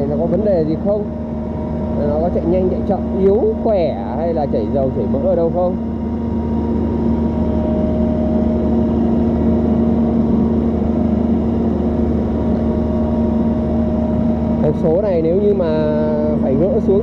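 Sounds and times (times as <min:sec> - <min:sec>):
excavator engine hum: 0:00.0 - 0:17.0
higher steady tone: 0:00.0 - 0:17.0.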